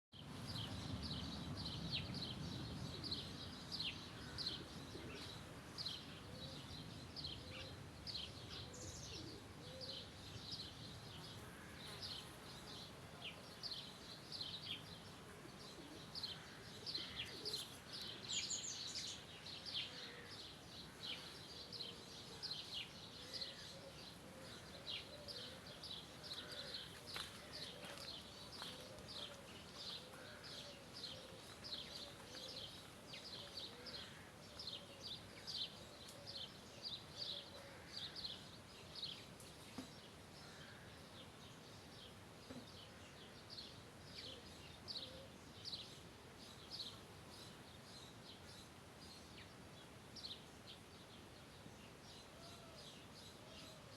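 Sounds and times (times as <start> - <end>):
faint background hiss: 0.2 - 53.9.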